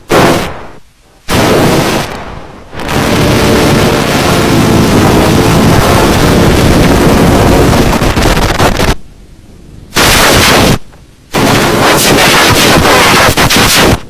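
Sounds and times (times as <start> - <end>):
crackling distorted noise: 0.0 - 14.0.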